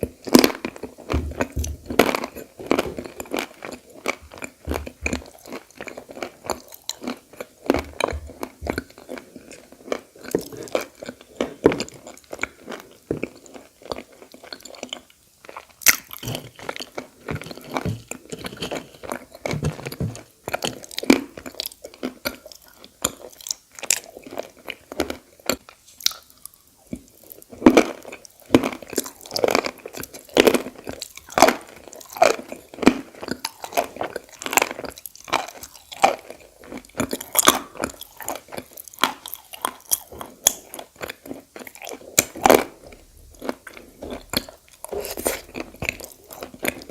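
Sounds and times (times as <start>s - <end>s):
clay being bitten and chewed: 0.2s - 46.9s.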